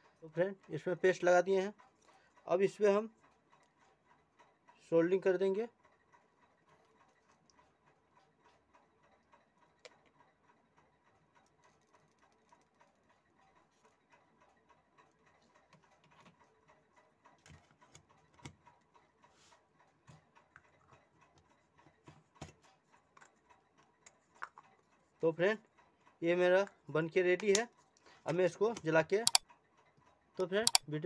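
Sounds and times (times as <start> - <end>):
small clicks and taps of tools: 5.8 - 30.9.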